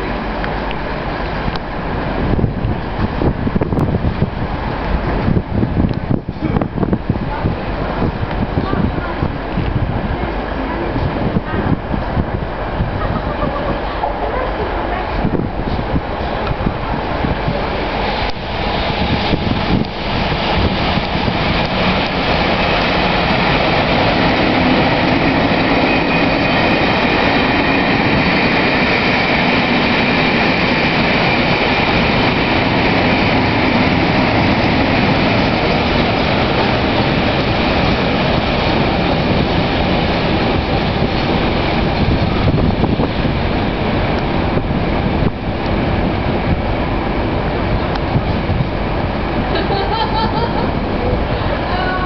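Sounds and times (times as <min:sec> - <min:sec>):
diesel locomotive engine passing: 0:00.0 - 0:52.0
wheel and rail noise: 0:00.0 - 0:52.0.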